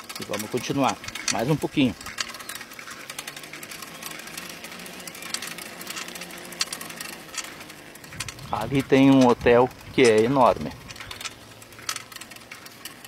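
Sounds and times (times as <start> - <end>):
bicycle freewheel ticking: 0.0 - 13.0.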